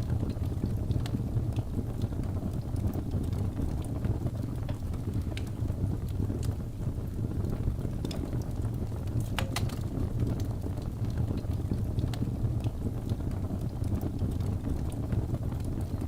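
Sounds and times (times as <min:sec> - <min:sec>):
fire crackles and pops: 0:00.0 - 0:16.0
low rumble of fire: 0:00.0 - 0:16.0.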